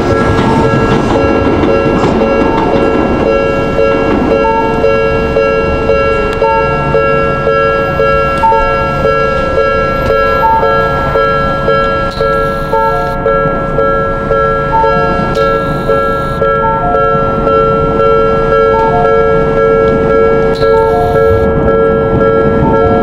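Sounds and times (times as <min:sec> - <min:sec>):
level crossing warning bell: 0:00.0 - 0:23.0
passing train rumble: 0:00.0 - 0:23.0.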